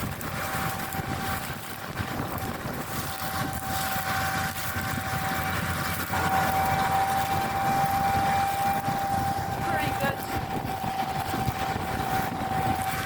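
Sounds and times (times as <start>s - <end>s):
combine harvester din: 0.0s - 13.0s
constant machine whine: 0.0s - 13.0s.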